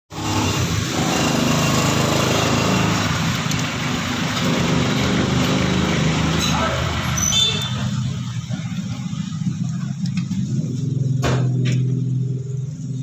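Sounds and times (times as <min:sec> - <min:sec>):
small engine humming: 0:00.2 - 0:13.0.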